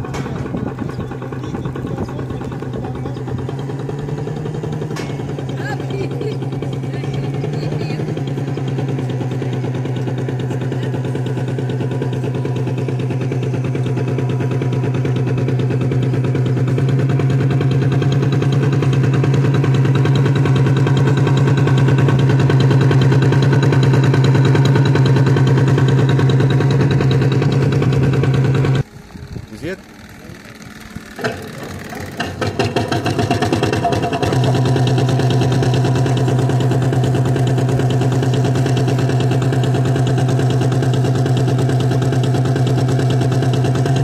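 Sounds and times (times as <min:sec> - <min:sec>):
model boat engine pulsing: 0:00.0 - 0:44.0.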